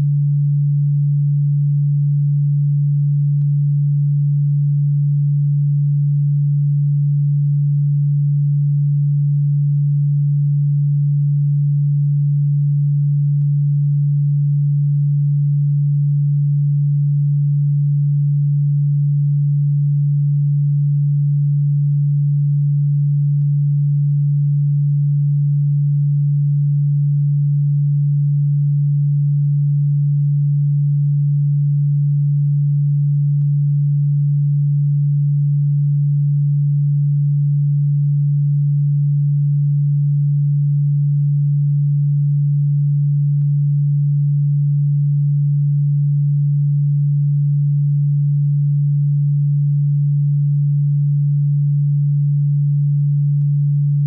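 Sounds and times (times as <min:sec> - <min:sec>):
low sine tone: 0:00.0 - 0:54.0.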